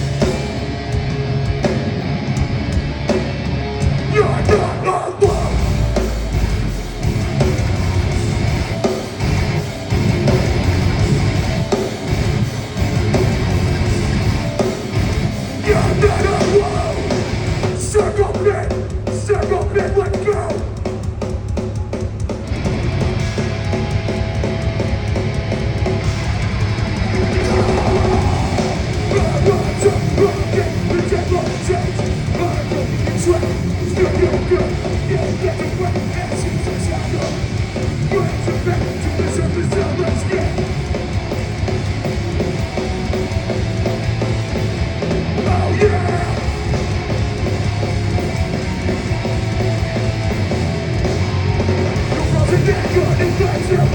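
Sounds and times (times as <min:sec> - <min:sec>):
bass guitar: 0:00.0 - 0:53.9
distorted guitars: 0:00.0 - 0:53.9
pounding drums: 0:00.0 - 0:53.9.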